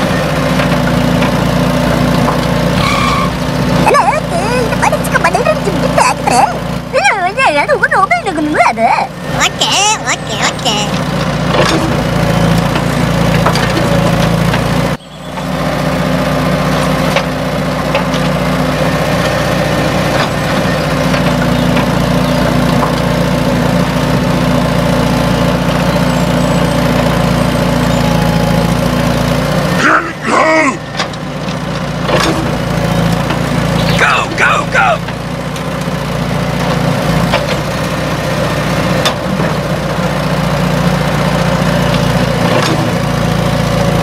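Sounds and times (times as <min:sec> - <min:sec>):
tractor engine idling: 0:00.0 - 0:44.0.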